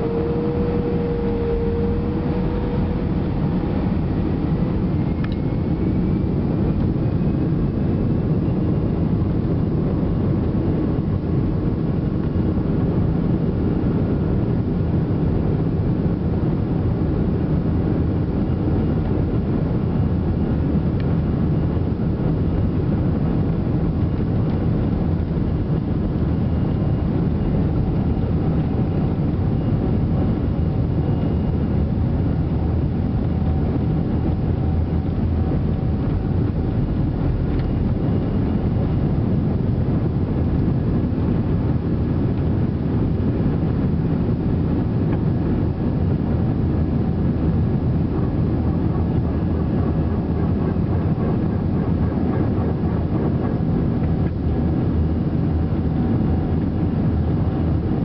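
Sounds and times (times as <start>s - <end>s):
faint steady whines: 0.0s - 58.0s
jet cabin low rumble: 0.0s - 58.0s.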